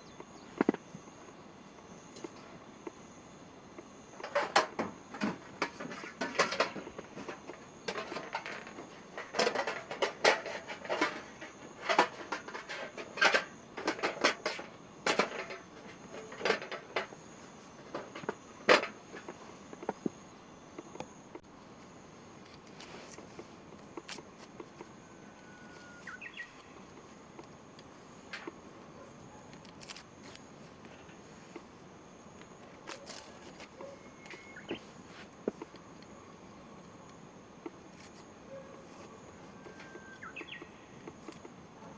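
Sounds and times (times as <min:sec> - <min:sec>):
high insect trill: 0:00.0 - 0:41.9.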